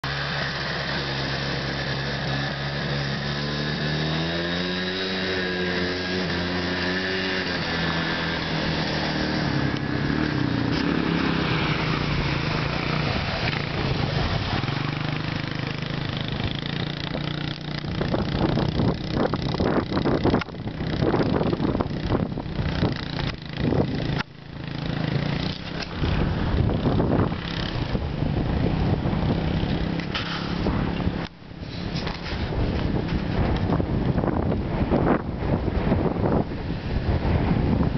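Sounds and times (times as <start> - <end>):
atv engines revving: 0.0 - 37.9.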